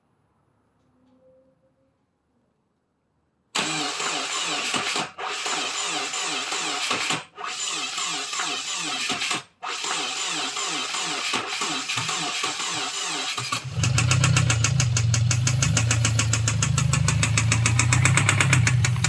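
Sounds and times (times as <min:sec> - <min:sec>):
starter motor cranking engine: 0:03.6 - 0:19.0.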